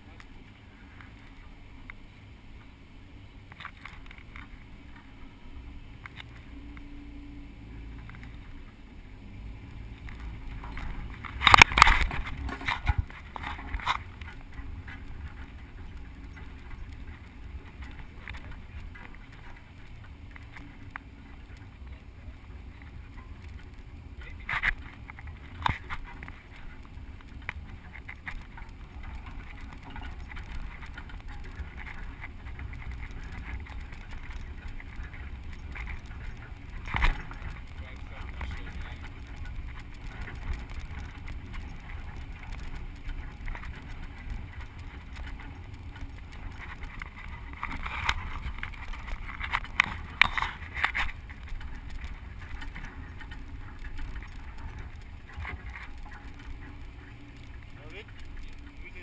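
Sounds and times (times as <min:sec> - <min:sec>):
engine rumble: 0:00.0 - 0:59.0
wind: 0:00.0 - 0:59.0
vehicle bangs and rattles: 0:03.4 - 0:59.0.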